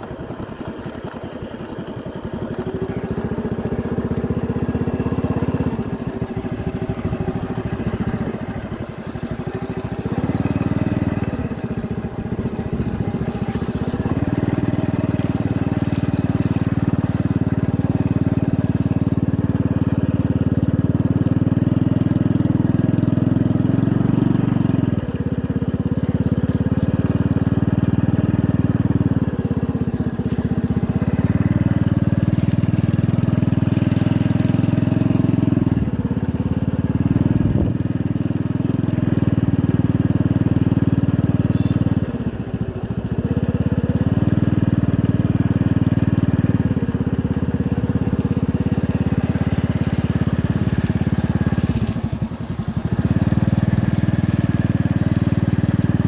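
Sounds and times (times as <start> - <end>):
small motorbike engine running: 0.0 - 56.0.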